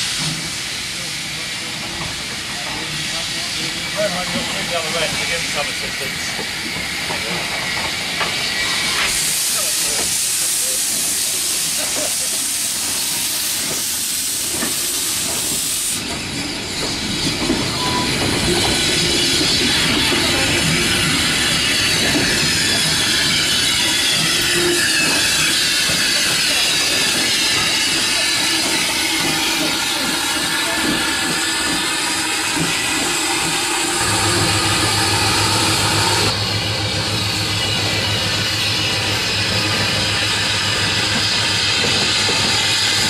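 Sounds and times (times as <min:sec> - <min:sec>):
steam hissing: 0:00.0 - 0:43.0
wagons rumbling on rails: 0:00.0 - 0:43.0.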